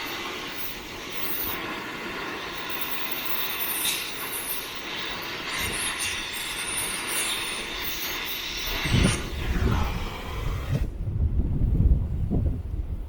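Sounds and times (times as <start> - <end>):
cutting torch hissing: 0.0 - 11.0
crackle of burning metal: 0.0 - 13.0.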